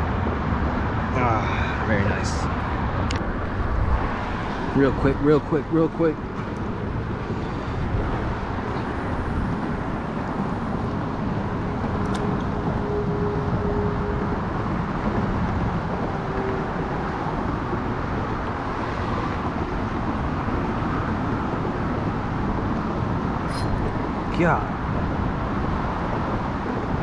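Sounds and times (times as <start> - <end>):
steady outdoor rushing noise: 0.0 - 27.0.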